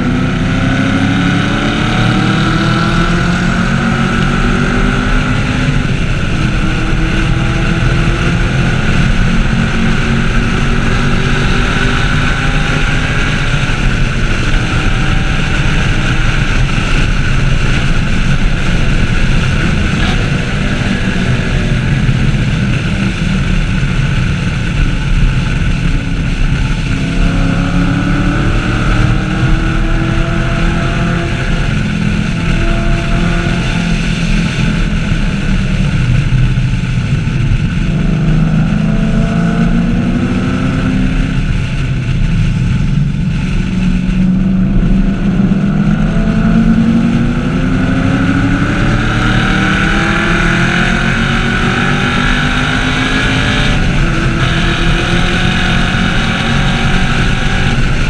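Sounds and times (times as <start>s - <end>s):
car engine revving at speed: 0.0s - 58.0s.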